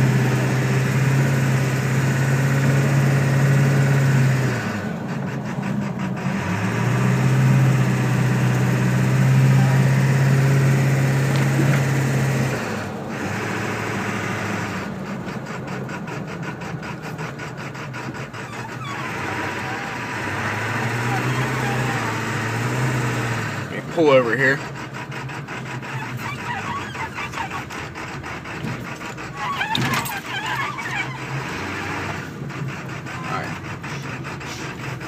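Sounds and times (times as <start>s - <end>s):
diesel engine rough idle: 0.0s - 35.0s.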